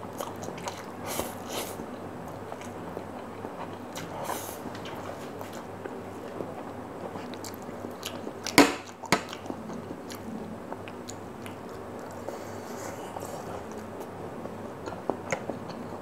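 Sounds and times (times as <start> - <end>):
chewing noodles: 0.1 - 16.0.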